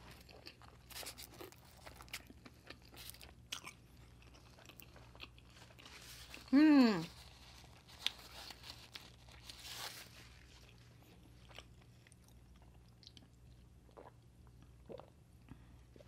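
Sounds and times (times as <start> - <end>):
faint chewing crunches: 0.0 - 14.6.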